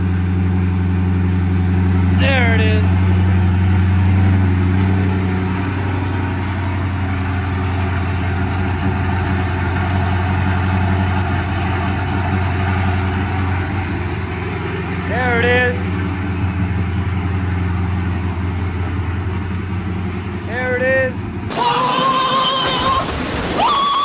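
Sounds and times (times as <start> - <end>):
car engine idling: 0.0 - 23.2.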